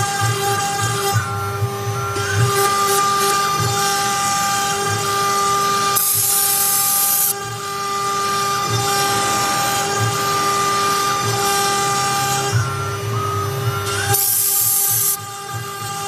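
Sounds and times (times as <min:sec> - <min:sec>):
cutter hissing through wood: 0:00.0 - 0:16.0
router spindle whining: 0:00.0 - 0:16.0.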